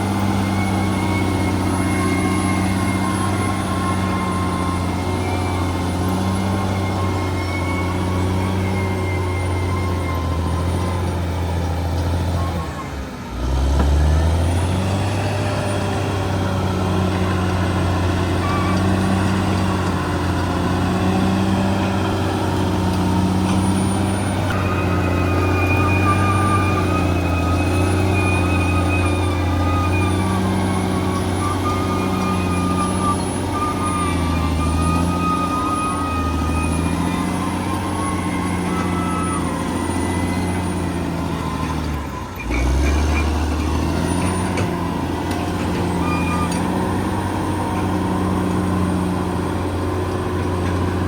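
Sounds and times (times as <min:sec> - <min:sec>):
high-pitched whining tones: 0:00.0 - 0:13.1, 0:14.1 - 0:50.9
diesel engine under load: 0:00.0 - 0:51.0.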